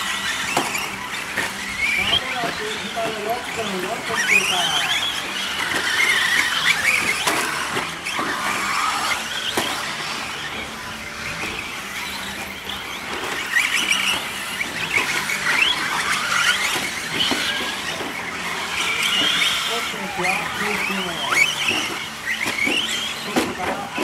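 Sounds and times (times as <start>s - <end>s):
rc truck motors whining: 0.0s - 24.0s.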